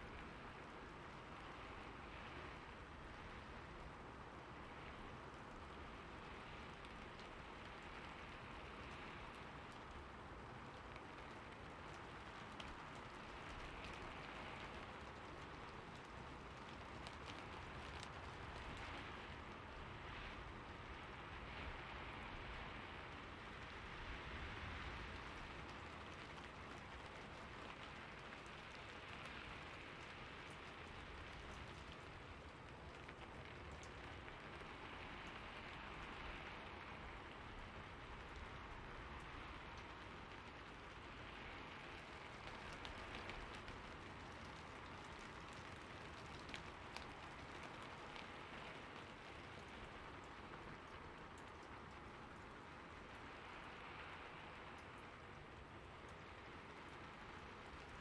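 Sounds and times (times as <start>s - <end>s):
raindrop ticks: 0.0s - 58.0s
steady rainfall: 0.0s - 58.0s.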